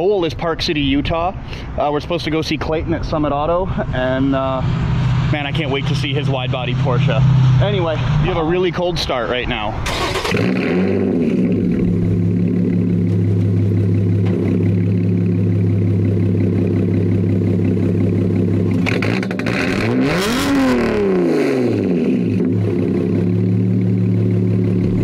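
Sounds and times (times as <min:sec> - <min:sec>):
car engine starting and idling: 0:03.2 - 0:25.0.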